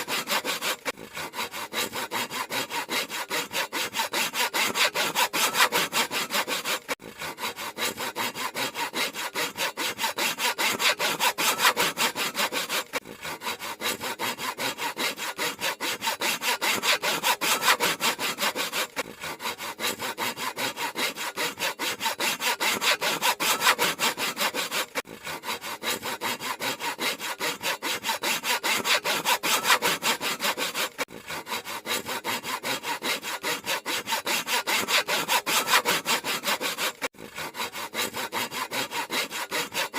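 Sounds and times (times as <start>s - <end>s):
handsaw cutting wood: 0.0s - 39.9s.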